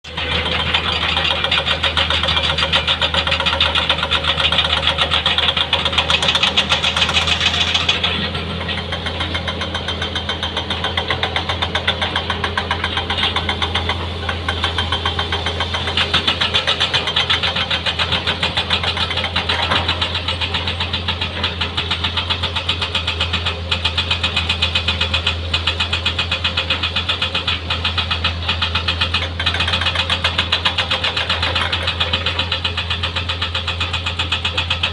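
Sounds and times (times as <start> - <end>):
diesel engine knocking: 0.1 - 34.9.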